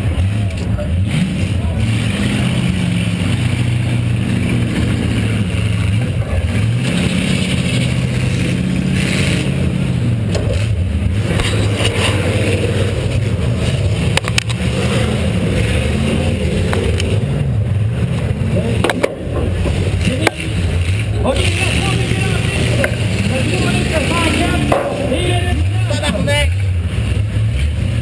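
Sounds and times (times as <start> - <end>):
loud car engine under throttle: 0.0 - 28.0.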